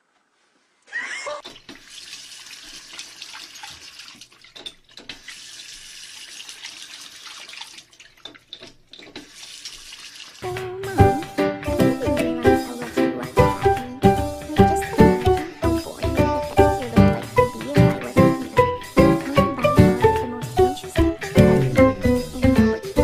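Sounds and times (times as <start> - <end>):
water running from faucet: 1.4 - 23.0.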